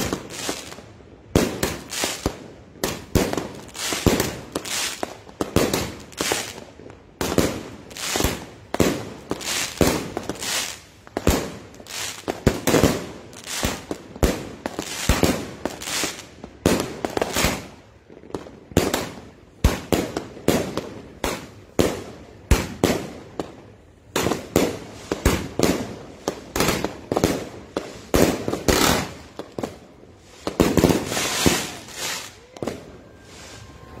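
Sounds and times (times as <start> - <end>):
firework aerial bursts: 0.0 - 17.8, 24.1 - 34.0.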